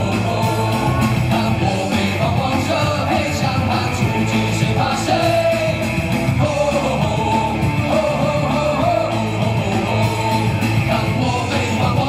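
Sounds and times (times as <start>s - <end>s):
rock cheer song with band: 0.0s - 12.0s.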